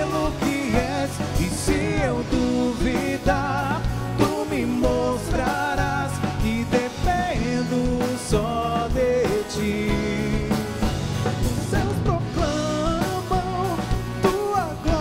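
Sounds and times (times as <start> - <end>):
band accompaniment: 0.0 - 15.0.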